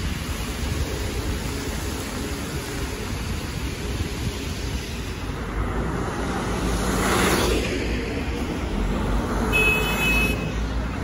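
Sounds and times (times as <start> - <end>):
cars passing on a street: 0.0 - 11.0.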